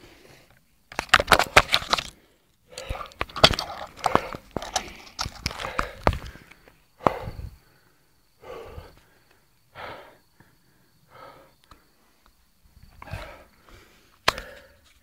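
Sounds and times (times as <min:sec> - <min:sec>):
breathy puffs: 0:01.4 - 0:12.3, 0:12.9 - 0:15.0.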